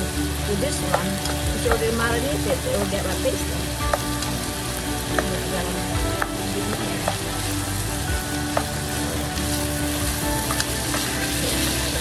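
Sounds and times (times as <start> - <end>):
chicken and onions sizzling: 0.0 - 12.0.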